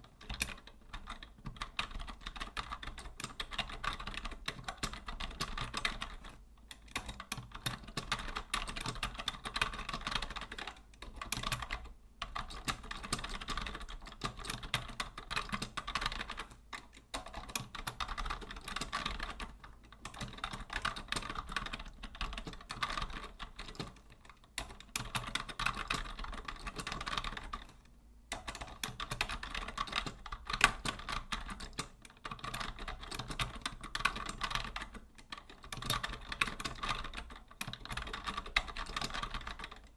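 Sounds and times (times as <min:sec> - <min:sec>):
keyboard typing clicks: 0:00.1 - 0:39.9.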